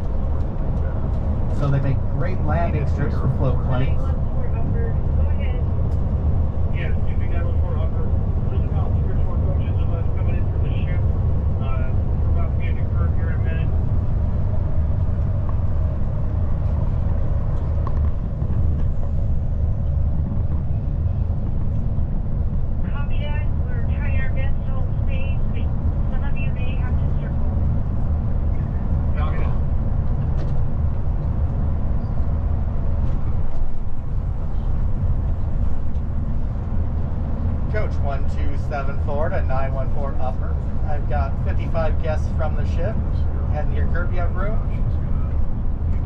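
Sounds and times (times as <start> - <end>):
bus engine and road noise: 0.0 - 46.0.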